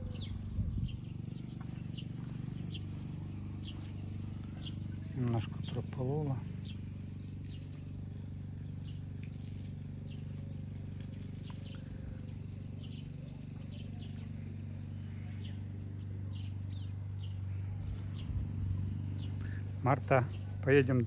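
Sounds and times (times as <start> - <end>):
small bird calling: 0.0 - 14.3, 15.0 - 20.7
lawn mower engine running: 0.0 - 21.0.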